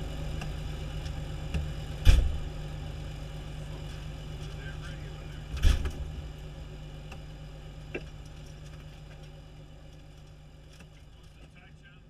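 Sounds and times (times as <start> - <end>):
fire engine idling: 0.0 - 12.0.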